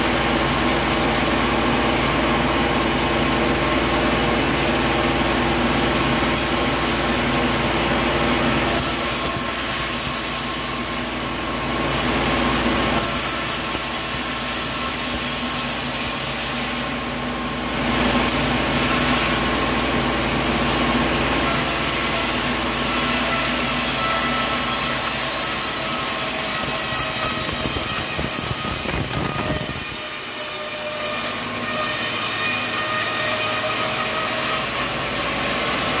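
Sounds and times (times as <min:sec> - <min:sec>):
sawmill machinery whining: 0:00.0 - 0:36.0.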